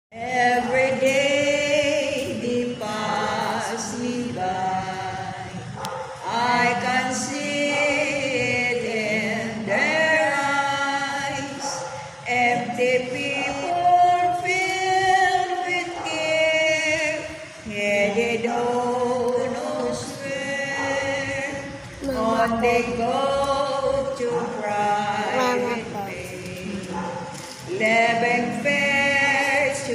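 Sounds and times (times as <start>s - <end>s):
women singing a hymn: 0.1s - 29.9s.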